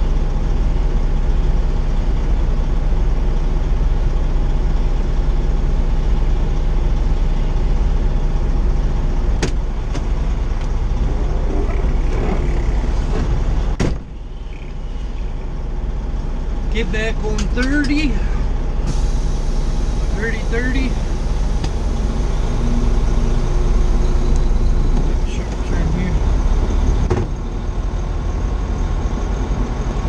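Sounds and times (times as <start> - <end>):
truck diesel engine droning: 0.0 - 30.0.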